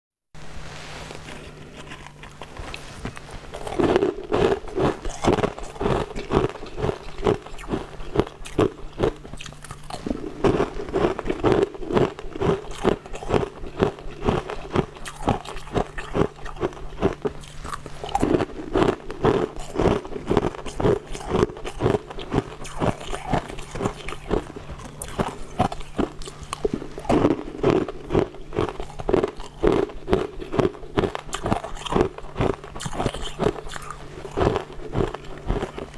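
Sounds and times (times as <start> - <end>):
ice cubes crunching in mouth: 1.3 - 35.9.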